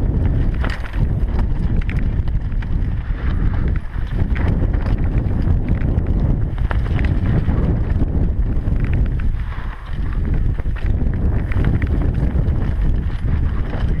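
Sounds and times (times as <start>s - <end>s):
bike clattering over stones: 0.0s - 14.0s
wind rumble on microphone: 0.0s - 14.0s.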